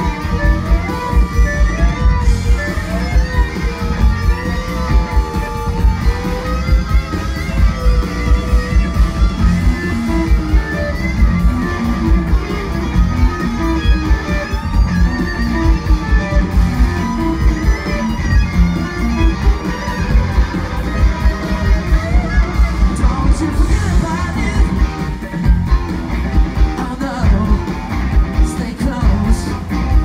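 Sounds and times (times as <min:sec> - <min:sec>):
lead guitar bending notes: 0:00.0 - 0:30.0
rock band playing instrumental: 0:00.0 - 0:30.0.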